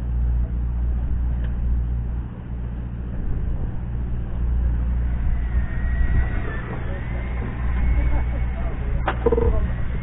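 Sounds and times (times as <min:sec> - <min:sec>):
boat machinery humming: 0:00.0 - 0:10.0
faint high whine: 0:00.0 - 0:10.0.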